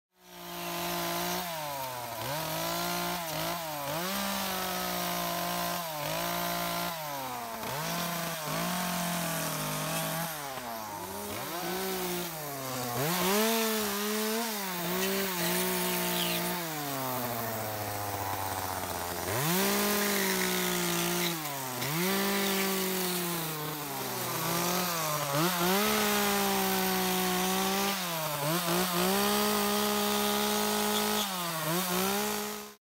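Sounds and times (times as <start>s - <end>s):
chainsaw cutting wood: 0.2s - 32.8s.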